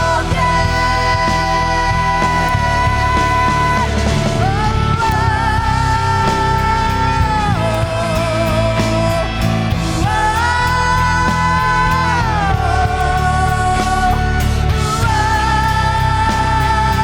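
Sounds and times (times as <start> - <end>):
rock-style worship band playing: 0.0 - 17.0.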